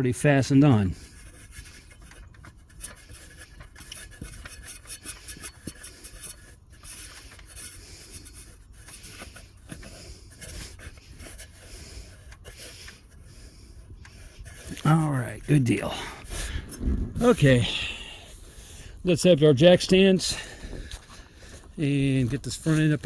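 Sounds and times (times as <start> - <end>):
rubbing and scraping: 0.0 - 23.0.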